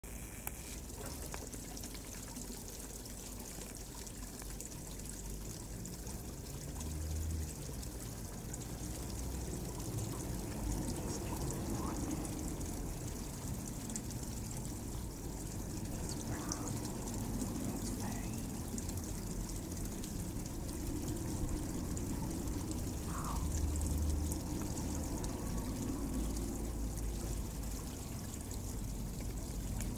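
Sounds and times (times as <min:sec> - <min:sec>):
fountain water splashing into basin: 0:00.4 - 0:29.9.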